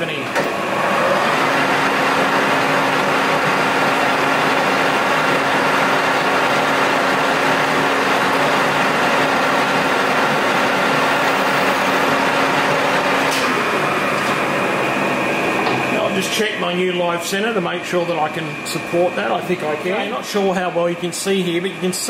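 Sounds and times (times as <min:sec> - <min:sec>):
metal lathe gear whine: 0:00.6 - 0:22.0.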